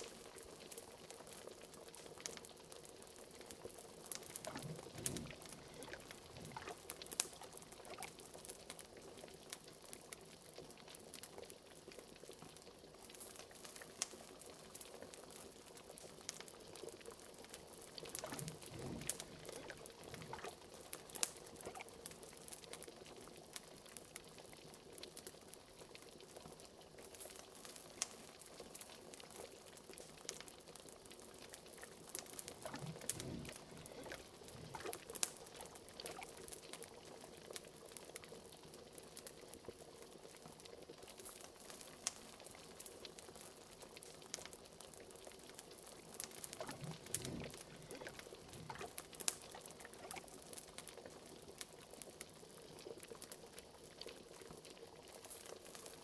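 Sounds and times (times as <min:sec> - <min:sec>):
fire crackles and pops: 0:00.0 - 0:56.0
liquid bubbling in a pot: 0:00.0 - 0:56.0.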